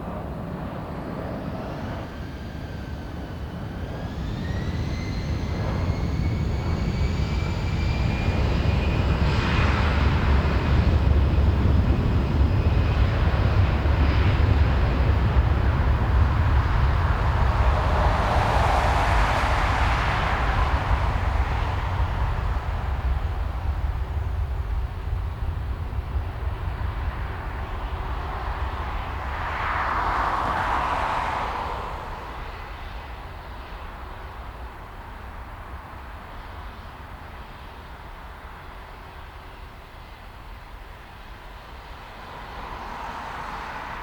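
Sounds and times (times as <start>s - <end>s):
jet airliner taking off: 0.0s - 44.0s.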